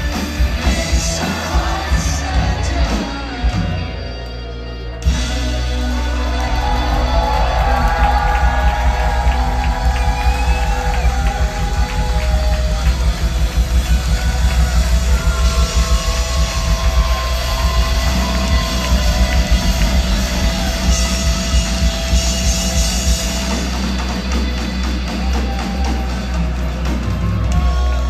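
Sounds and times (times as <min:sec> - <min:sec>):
live rock band: 0:00.0 - 0:28.0.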